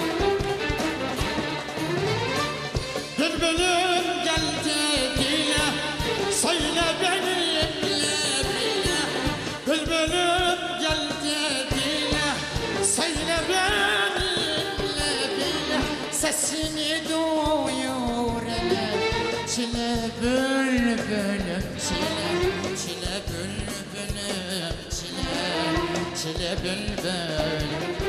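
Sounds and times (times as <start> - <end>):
instrumental accompaniment: 0.0 - 28.0
singing with heavy vibrato: 3.2 - 28.0.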